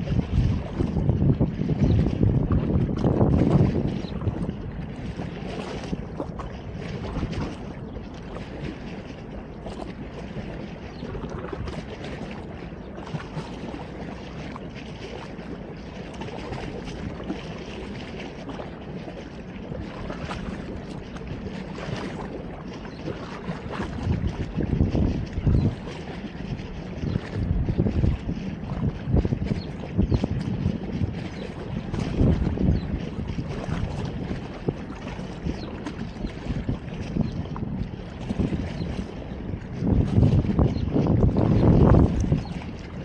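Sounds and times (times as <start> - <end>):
water: 0.0 - 43.0
wind: 0.0 - 43.0.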